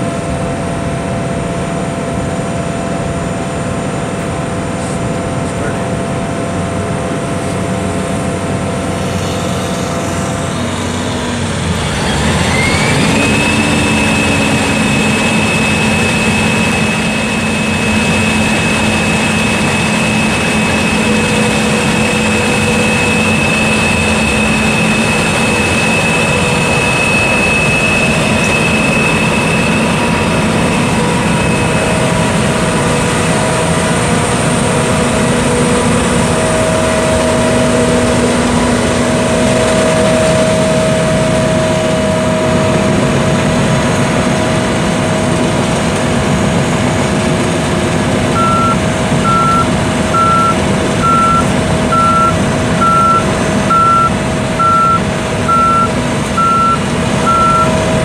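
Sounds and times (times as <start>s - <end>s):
combine engine and machinery: 0.0s - 58.0s
high machinery whine: 0.0s - 58.0s.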